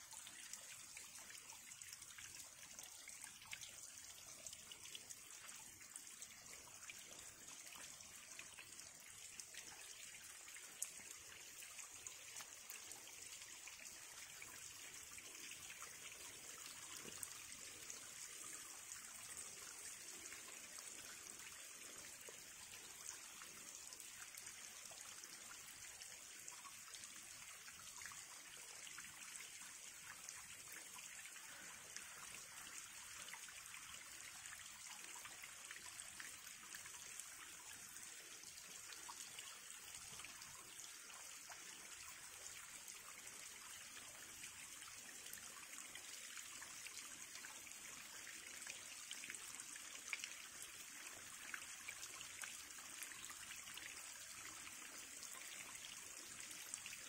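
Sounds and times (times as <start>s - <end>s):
water trickling over stones: 0.0s - 57.0s.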